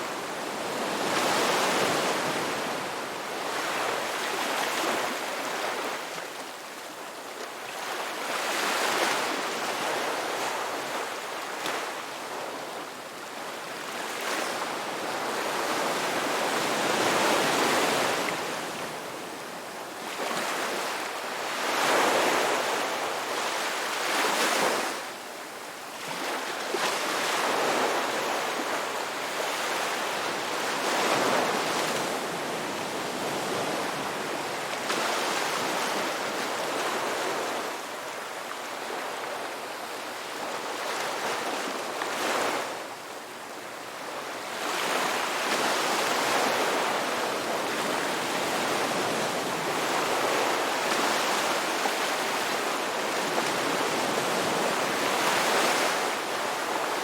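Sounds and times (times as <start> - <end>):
ocean waves breaking on shore: 0.0 - 25.2, 25.9 - 57.0.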